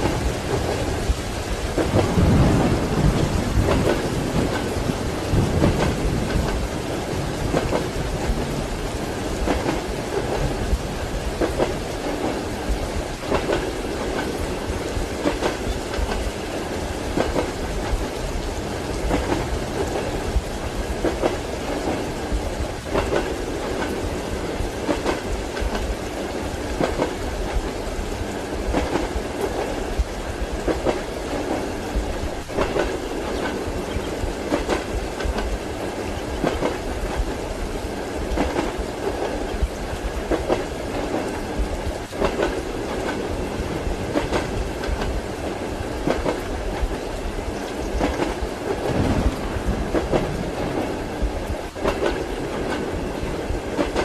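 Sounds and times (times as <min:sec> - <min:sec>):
train wheels clacking: 0:00.0 - 0:54.0.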